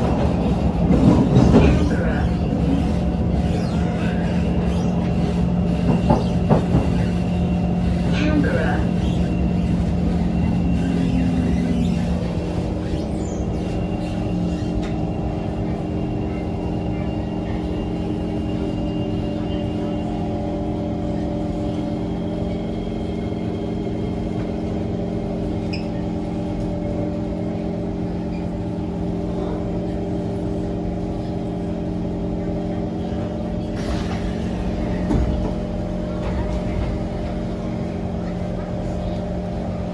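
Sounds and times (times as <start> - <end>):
train electrical hum: 0.0 - 39.9.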